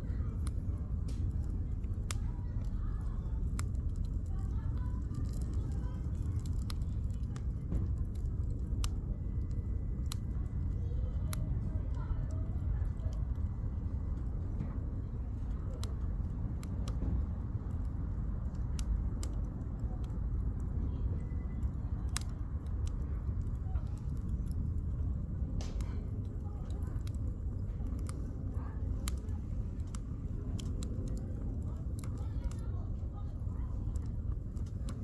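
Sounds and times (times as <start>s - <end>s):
campfire crackling and popping: 0.0s - 35.0s
steady low rumble: 0.0s - 35.0s.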